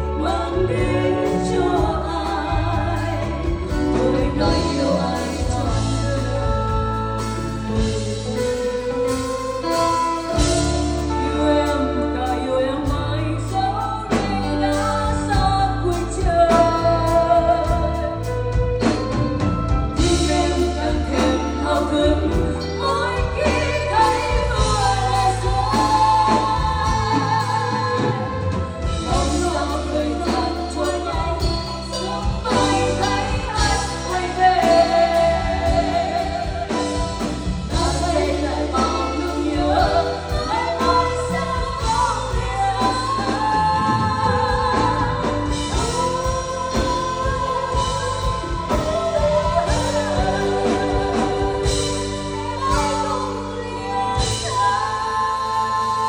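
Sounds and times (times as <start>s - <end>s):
band accompaniment with bass: 0.0s - 56.0s
person singing: 0.0s - 56.0s.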